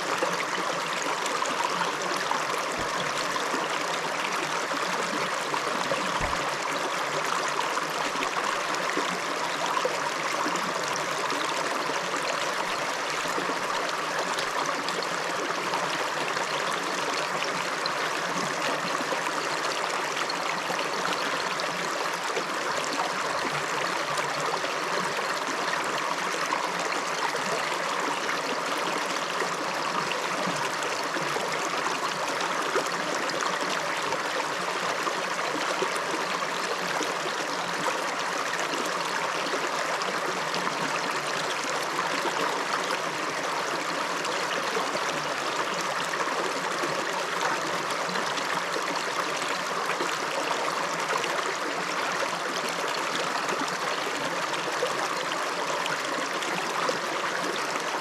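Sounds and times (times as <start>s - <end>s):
river flowing over stones: 0.0s - 58.0s.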